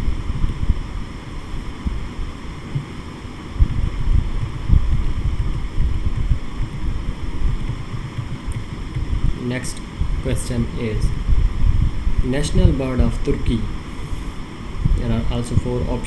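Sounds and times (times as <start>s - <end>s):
low rumbling on microphone: 0.0s - 16.0s.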